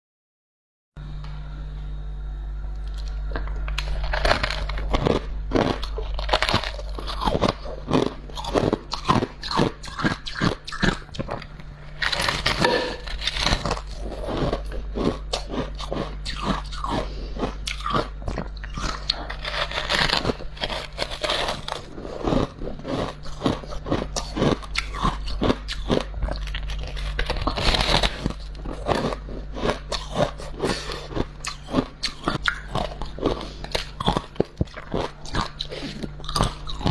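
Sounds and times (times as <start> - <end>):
steady low hum: 1.0 - 36.9
chewing crunchy frost: 2.8 - 36.9.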